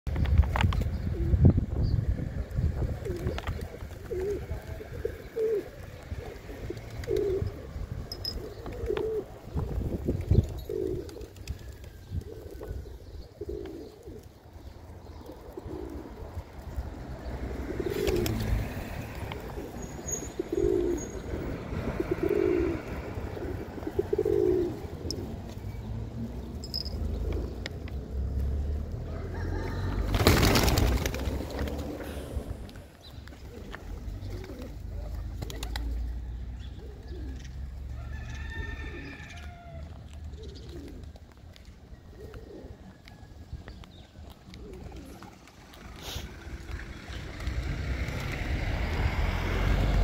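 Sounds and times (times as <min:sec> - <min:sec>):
pigeons cooing: 0:02.2 - 0:37.8, 0:38.8 - 0:50.0.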